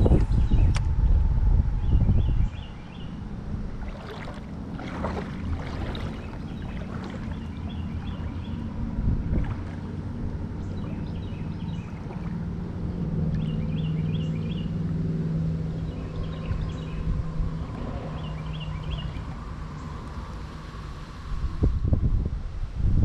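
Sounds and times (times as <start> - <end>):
distant engine drone: 0.0 - 22.8.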